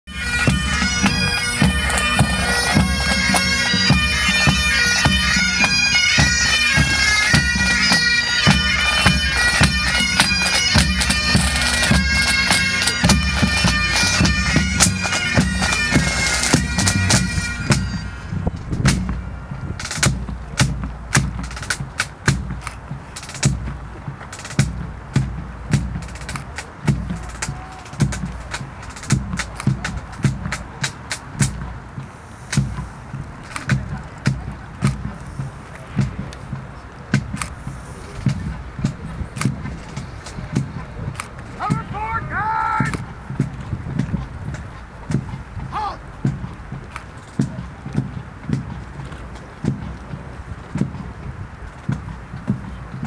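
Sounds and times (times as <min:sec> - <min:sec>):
bagpipes playing a march: 0:00.1 - 0:53.0
snare and bass drums: 0:00.4 - 0:53.0.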